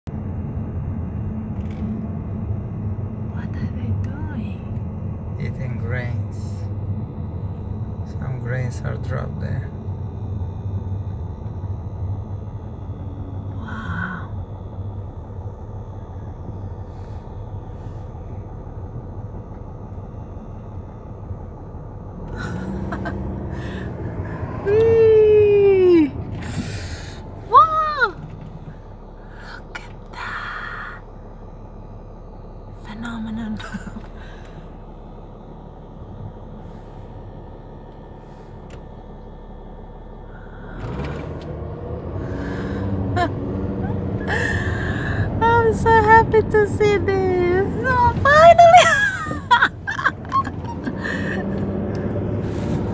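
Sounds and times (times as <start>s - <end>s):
car engine and tyre rumble: 0.0s - 52.9s.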